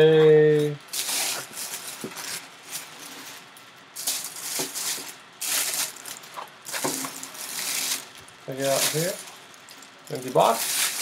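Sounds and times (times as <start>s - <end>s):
tissue paper rustling: 0.9s - 11.0s.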